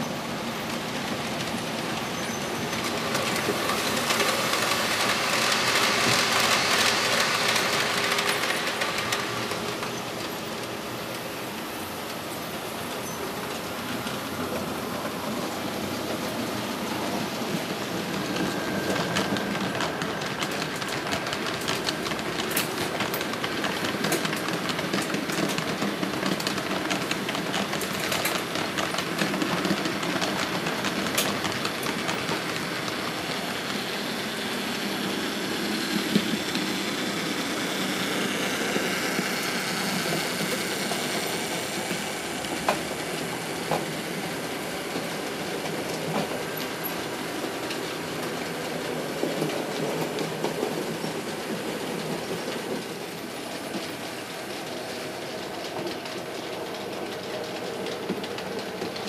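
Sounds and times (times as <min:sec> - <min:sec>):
model train rolling: 0:00.0 - 0:59.0
wheels clicking over rail joints: 0:00.0 - 0:59.0.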